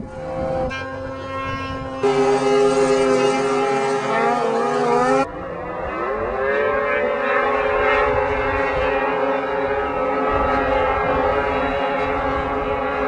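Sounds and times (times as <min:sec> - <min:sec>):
snowmobile engine high revs: 0:00.0 - 0:13.0
snowmobile engine revving up: 0:00.0 - 0:13.0.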